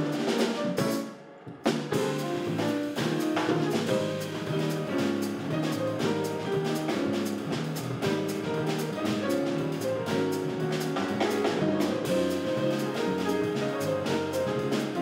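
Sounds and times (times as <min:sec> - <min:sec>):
drum kit with cymbal strokes: 0:00.0 - 0:15.0
grand piano: 0:00.0 - 0:15.0.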